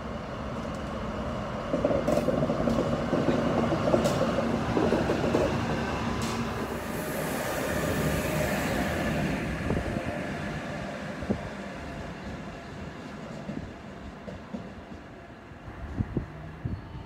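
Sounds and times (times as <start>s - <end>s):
train rushing on rails: 0.0s - 17.0s.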